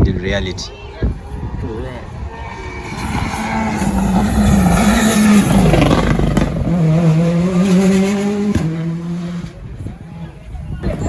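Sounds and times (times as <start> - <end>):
rally car engine passing: 1.1 - 11.0.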